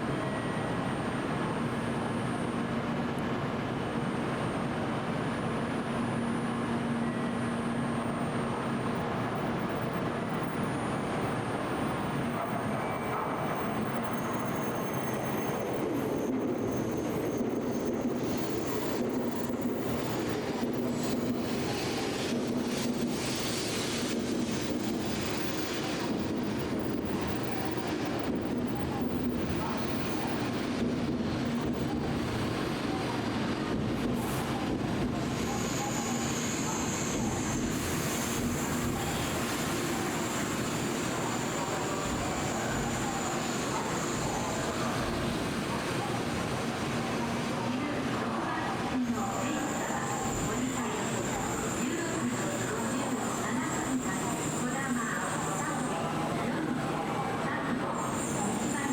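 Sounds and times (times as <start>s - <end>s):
train rumble with low hum: 0.0s - 58.9s.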